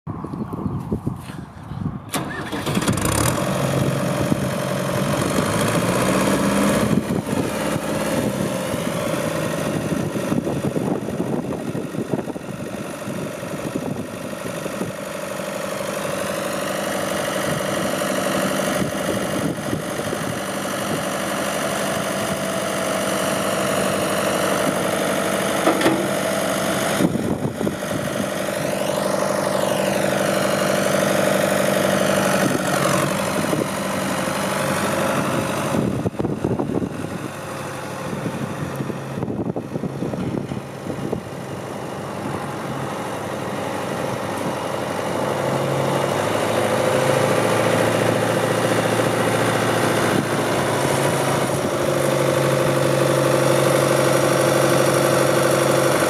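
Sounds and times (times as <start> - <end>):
tractor diesel engine idling: 0.5 - 56.0.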